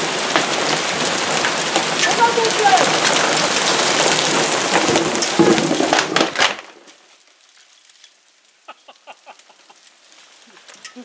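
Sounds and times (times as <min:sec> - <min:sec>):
heavy rain and hail pelting: 0:00.0 - 0:11.0.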